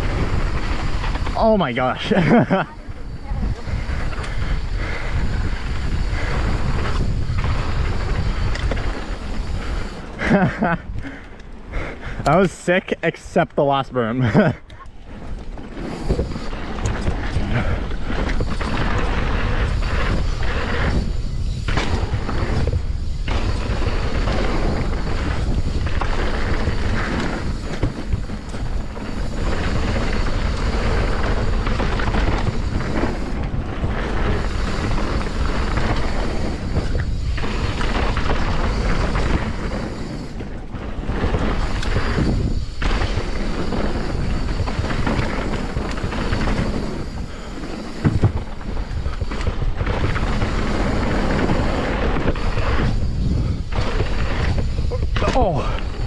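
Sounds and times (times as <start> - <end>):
wind buffeting microphone: 0.0 - 12.5, 14.2 - 56.0
bike tyres rolling on dirt trail: 0.0 - 56.0.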